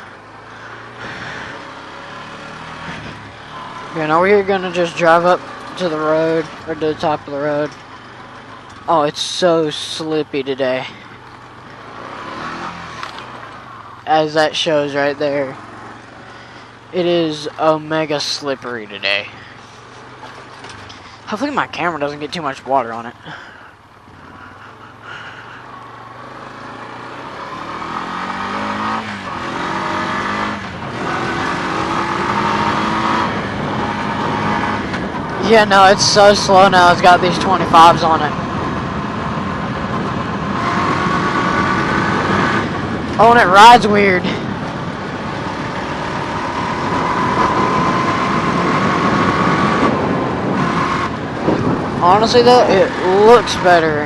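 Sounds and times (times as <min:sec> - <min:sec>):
atv engine accelerating: 0:00.0 - 0:54.0.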